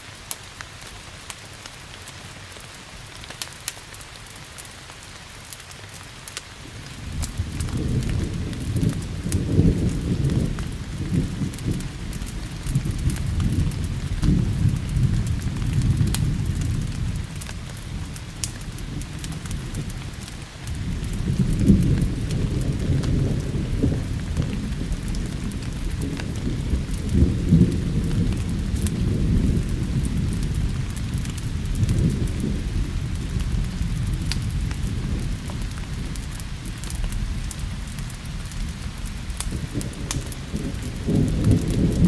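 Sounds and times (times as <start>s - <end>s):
steady rain: 0.0s - 42.0s
thunder rumbling: 6.6s - 42.0s.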